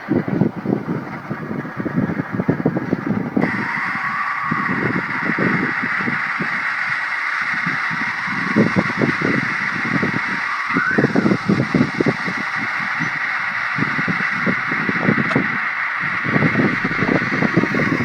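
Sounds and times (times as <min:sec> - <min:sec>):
strong gusting wind: 0:00.0 - 0:18.0.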